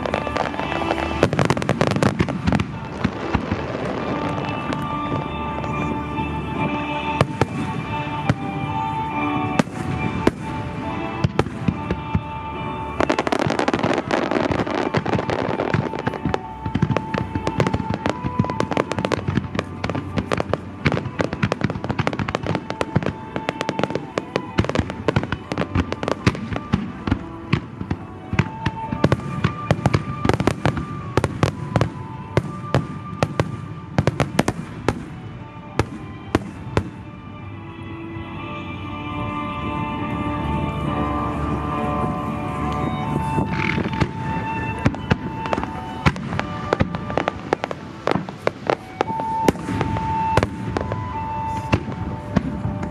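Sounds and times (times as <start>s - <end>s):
fireworks bursting: 0.0s - 37.5s, 38.6s - 52.9s
music playing: 0.0s - 52.9s.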